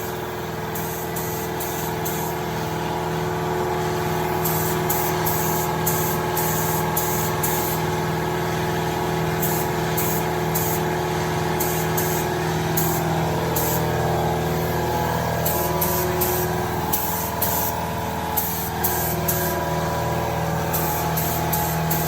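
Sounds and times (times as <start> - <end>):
paint spray gun hissing: 0.0 - 2.9, 3.6 - 8.2, 9.2 - 22.0
loud machine hum: 0.0 - 22.0.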